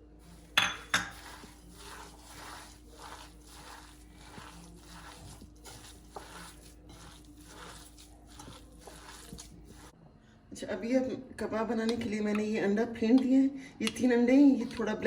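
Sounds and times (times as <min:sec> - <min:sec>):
squelching mince mixing: 0:00.2 - 0:10.0, 0:11.9 - 0:15.0.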